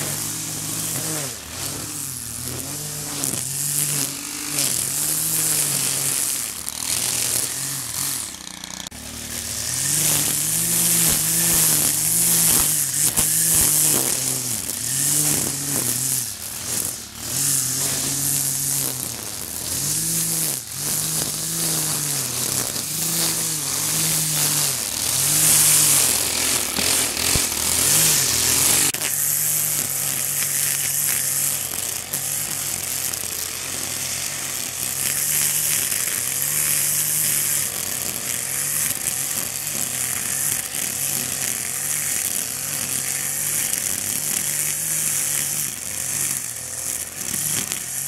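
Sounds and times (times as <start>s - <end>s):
string trimmer engine revving: 0.0s - 48.0s
trimmer line hissing through grass: 0.0s - 48.0s.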